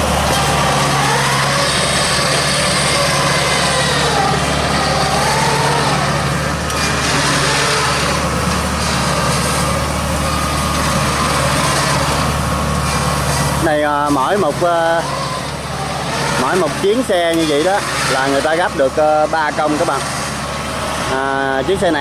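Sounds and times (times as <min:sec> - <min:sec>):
machine engine running: 0:00.0 - 0:22.0.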